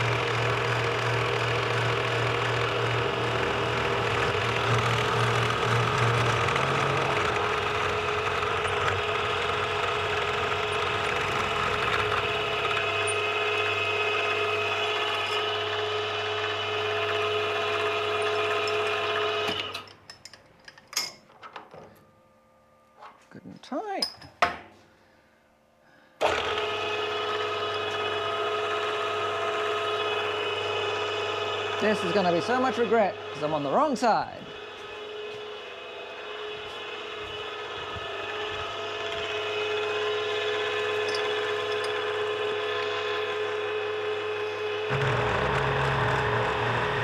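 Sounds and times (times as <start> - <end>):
machine tool humming: 0.0 - 19.7, 26.2 - 47.0.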